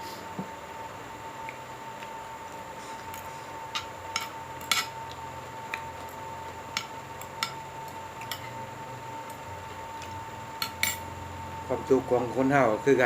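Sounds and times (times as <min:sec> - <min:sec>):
faint steady high hum: 0:00.0 - 0:13.0.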